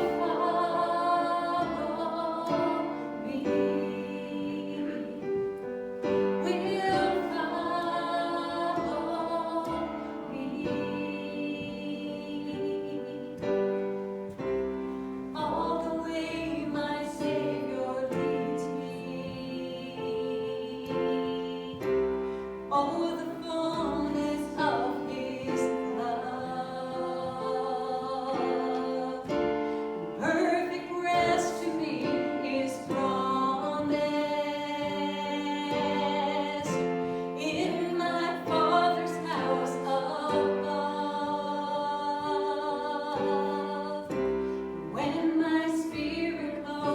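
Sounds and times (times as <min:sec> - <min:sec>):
people singing a hymn: 0:00.0 - 0:46.9
piano accompaniment: 0:00.0 - 0:46.9.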